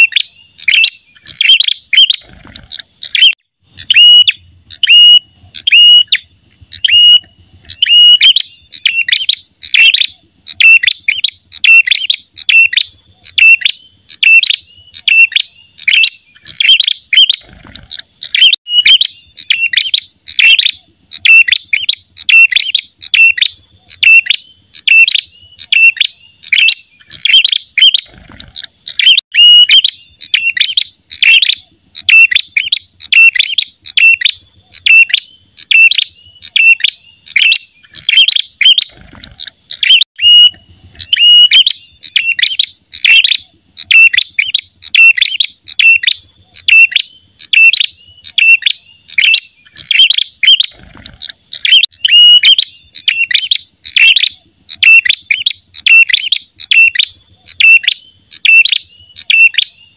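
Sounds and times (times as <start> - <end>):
bird chirping sharply: 0.0 - 59.9.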